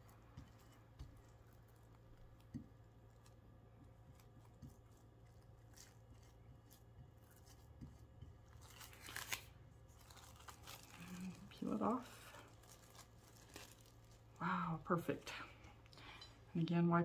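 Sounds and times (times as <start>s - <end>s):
plastic wrap crinkling: 0.0s - 16.0s.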